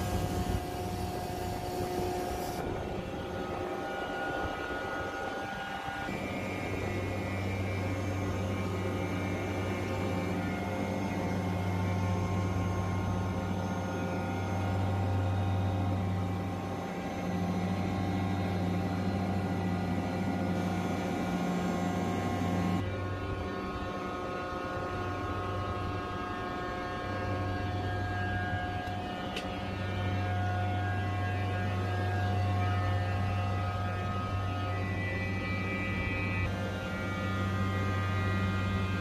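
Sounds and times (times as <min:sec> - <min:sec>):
chiller machine hum: 0:00.0 - 0:39.0.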